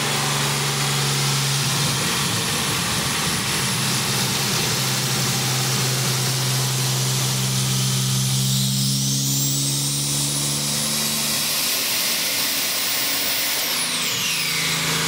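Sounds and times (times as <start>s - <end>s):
car engine running: 0.0s - 15.0s
high turbo whine: 0.0s - 15.0s.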